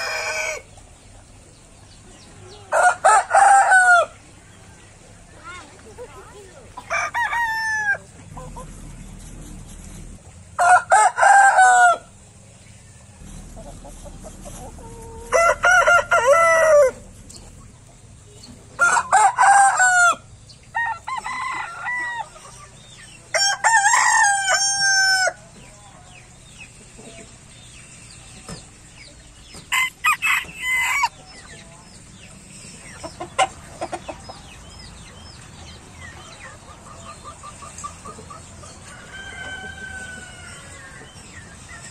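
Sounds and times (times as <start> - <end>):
roosters crowing: 0.0 - 4.6, 6.5 - 41.9.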